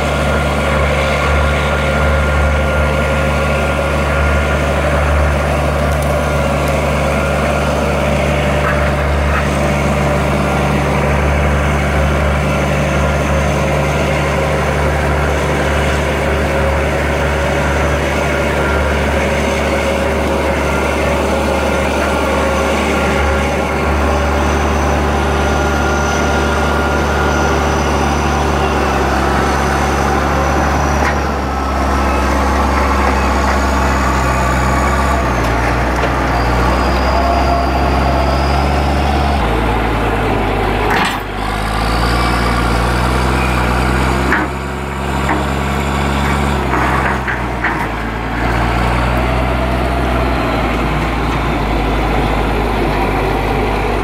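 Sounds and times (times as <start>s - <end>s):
bulldozer diesel engine under load: 0.0s - 54.0s.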